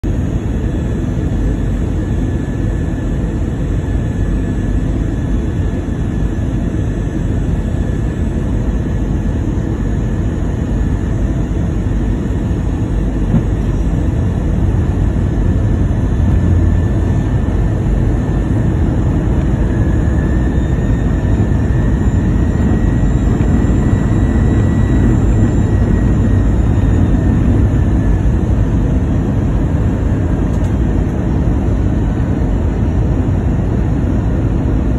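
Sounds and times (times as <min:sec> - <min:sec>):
jet engines with rushing air: 0:00.0 - 0:34.9
faint high whine: 0:00.1 - 0:34.9.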